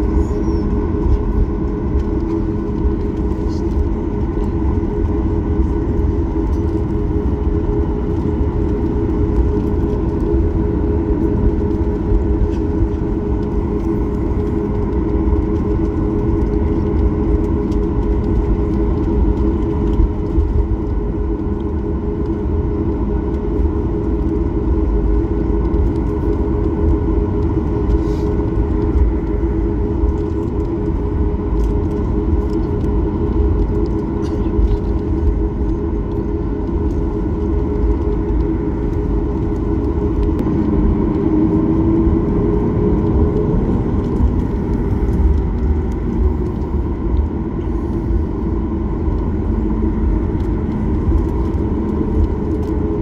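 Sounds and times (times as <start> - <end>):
constant low rumble: 0.0 - 53.0
jet engines humming: 0.0 - 53.0.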